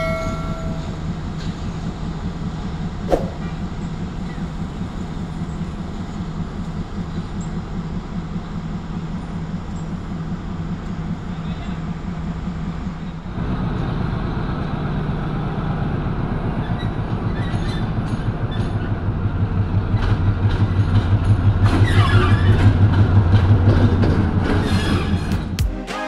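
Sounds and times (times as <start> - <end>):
diesel locomotive engine throbbing: 0.0 - 25.7.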